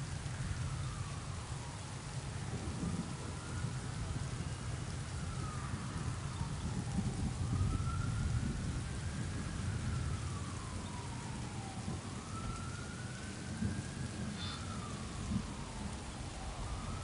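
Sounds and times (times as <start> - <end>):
distant siren wailing: 0.0 - 17.0
low rumble of thunder: 0.0 - 17.0
steady rain falling: 0.0 - 17.0.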